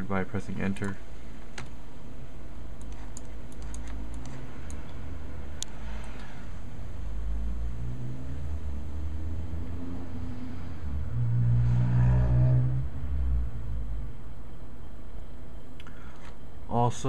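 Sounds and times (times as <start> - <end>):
computer rumble and whir: 0.0 - 17.0.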